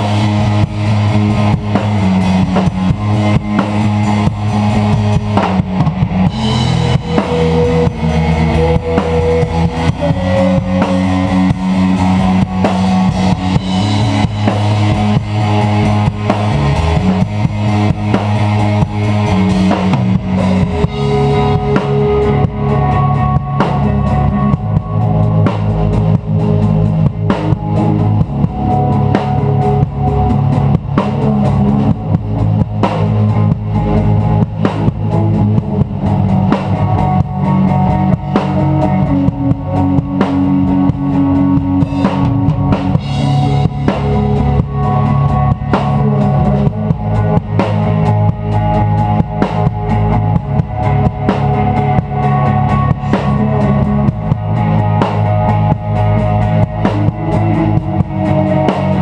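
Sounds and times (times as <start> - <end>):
drum kit with cymbals: 0.0 - 59.0
rock band playing live: 0.0 - 59.0.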